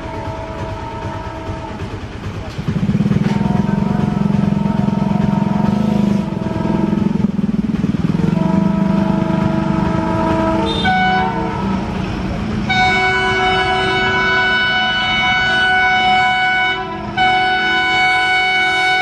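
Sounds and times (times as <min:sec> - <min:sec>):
train horn blasts: 0:00.0 - 0:02.2, 0:03.2 - 0:07.4, 0:08.1 - 0:19.0
diesel locomotive engine running: 0:00.0 - 0:19.0.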